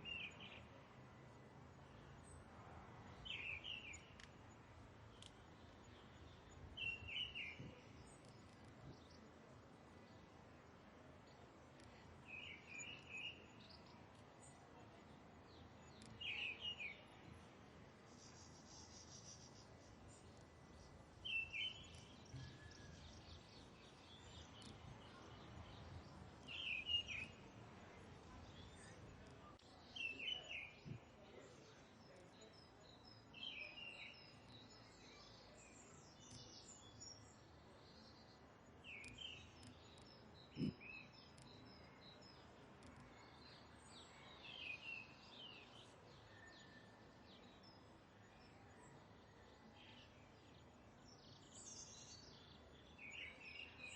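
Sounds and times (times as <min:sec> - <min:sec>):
low background noise: 0:00.0 - 0:53.9
faint high bird chirps: 0:05.1 - 0:09.3, 0:11.3 - 0:17.4, 0:18.1 - 0:53.9.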